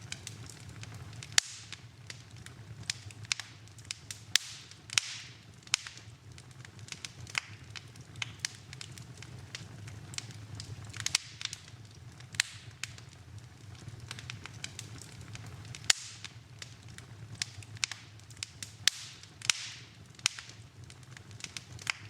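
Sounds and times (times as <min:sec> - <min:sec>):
low steady rumble: 0:00.0 - 0:22.0
wood fire crackling: 0:00.0 - 0:22.0.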